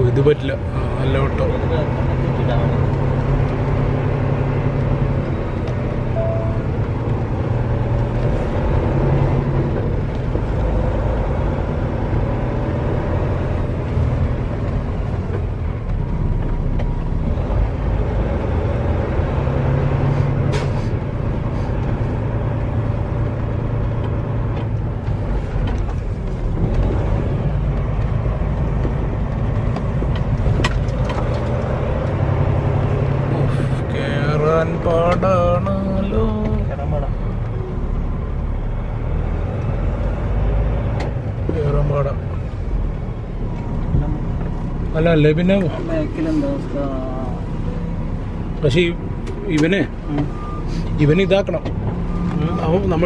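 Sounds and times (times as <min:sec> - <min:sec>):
truck diesel engine running: 0:00.0 - 0:53.0.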